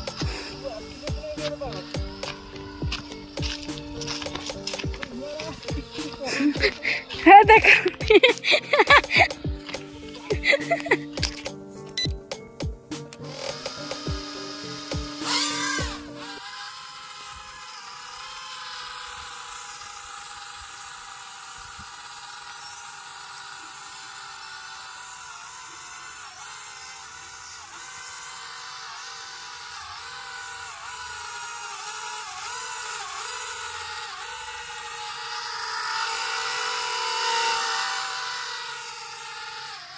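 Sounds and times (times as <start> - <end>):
small propeller motors whining: 0.0 - 39.9.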